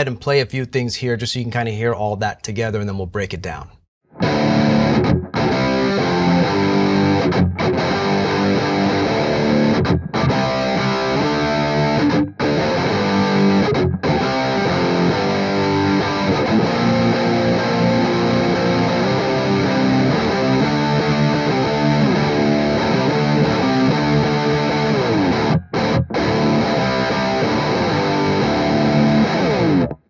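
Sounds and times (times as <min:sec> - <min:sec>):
distorted electric guitar riffs: 0:04.1 - 0:30.0.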